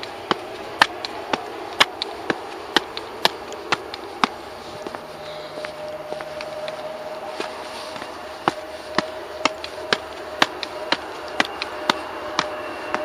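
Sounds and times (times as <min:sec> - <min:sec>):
footsteps climbing stairs: 0:00.0 - 0:13.0
steady thin hum: 0:00.0 - 0:13.0.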